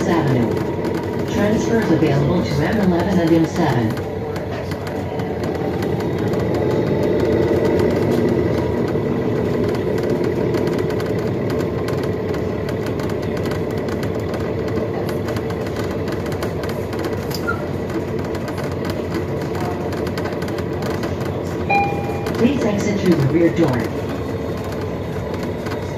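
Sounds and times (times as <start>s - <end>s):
bus drivetrain hum: 0.0s - 25.9s
road rumble: 0.0s - 25.9s.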